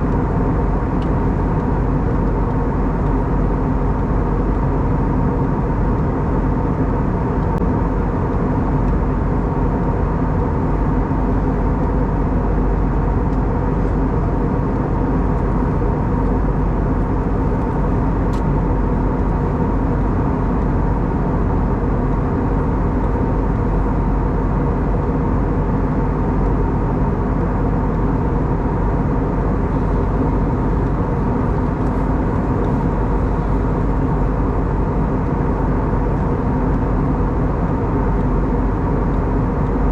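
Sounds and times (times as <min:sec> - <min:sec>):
airplane cabin noise: 0:00.0 - 0:39.9
steady humming tones: 0:00.0 - 0:39.9.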